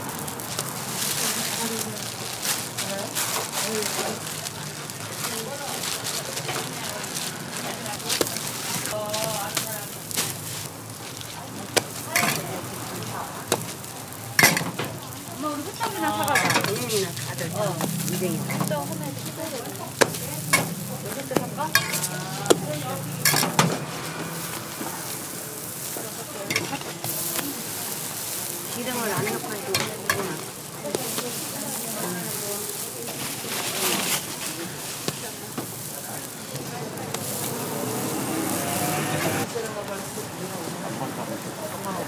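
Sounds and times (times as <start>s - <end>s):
pancakes sizzling on griddle: 0.0s - 42.0s.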